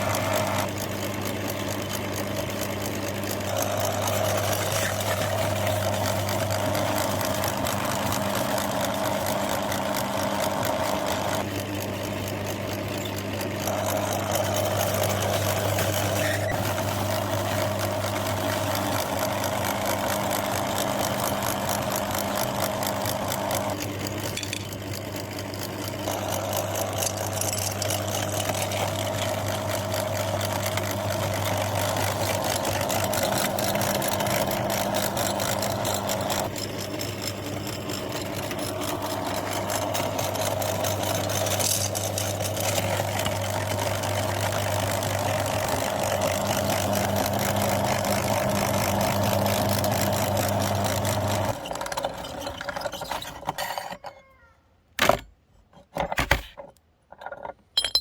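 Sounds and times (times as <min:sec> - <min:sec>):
electric meat grinder running: 0:00.0 - 0:52.0.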